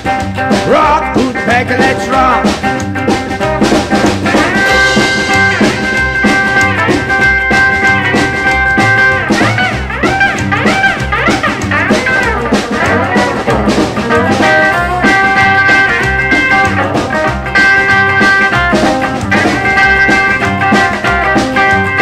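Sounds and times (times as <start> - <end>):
lead guitar bending notes: 0.0 - 22.0
steady drum beat: 0.0 - 22.0.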